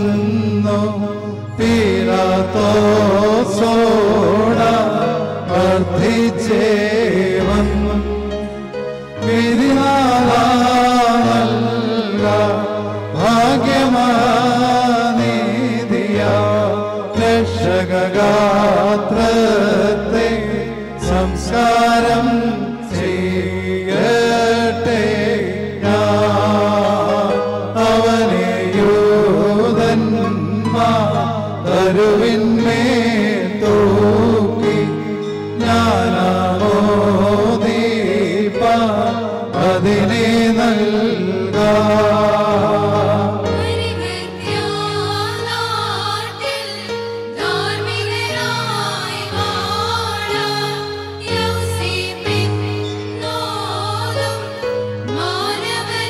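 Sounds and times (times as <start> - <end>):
voices chanting a hymn: 0.0 - 56.0.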